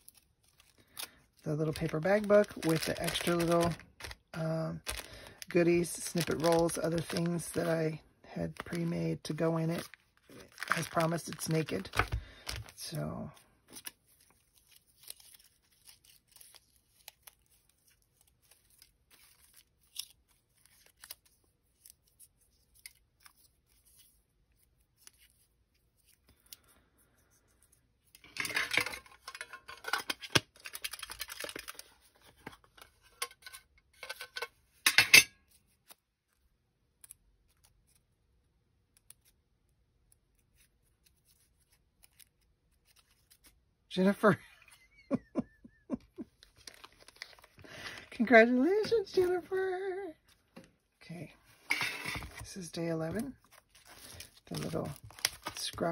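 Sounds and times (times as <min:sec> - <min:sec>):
paper and cellophane rustling: 0:00.0 - 0:34.8, 0:40.2 - 0:44.2, 0:46.2 - 0:50.6, 0:51.3 - 0:55.9.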